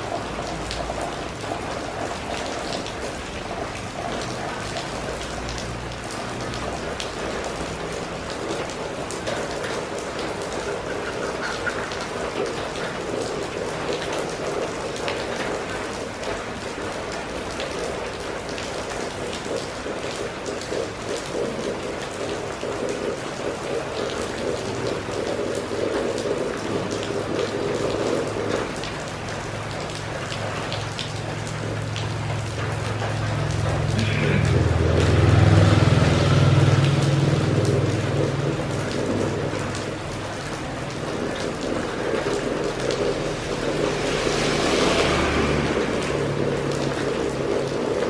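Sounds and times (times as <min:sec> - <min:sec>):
rain on standing water: 0:00.0 - 0:48.0.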